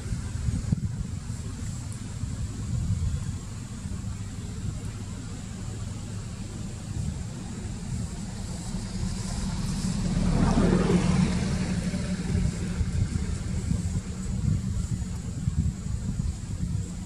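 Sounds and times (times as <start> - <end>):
vehicle engine rumble passing: 0.0 - 17.0.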